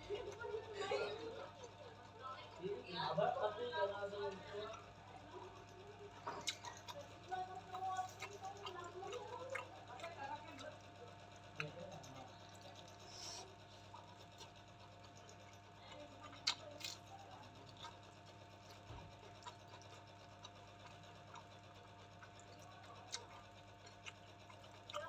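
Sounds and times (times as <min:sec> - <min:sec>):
quiet chewing: 0:00.0 - 0:02.5, 0:04.2 - 0:25.0
steady low hum: 0:00.0 - 0:25.0.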